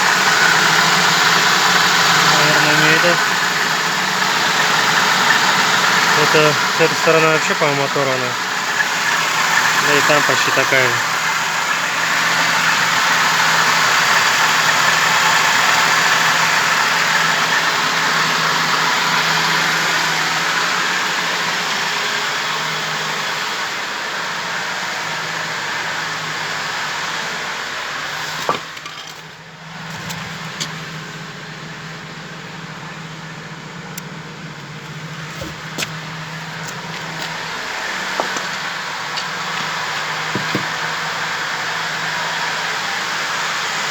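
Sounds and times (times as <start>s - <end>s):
petrol engine idling: 0.0s - 43.9s.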